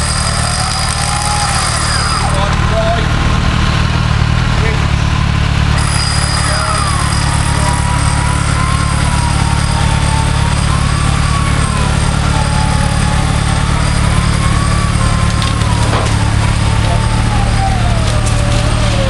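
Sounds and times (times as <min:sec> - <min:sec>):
high whine wavering in pitch: 0:00.0 - 0:03.2, 0:05.7 - 0:19.0
engine running at low revs: 0:00.0 - 0:19.0.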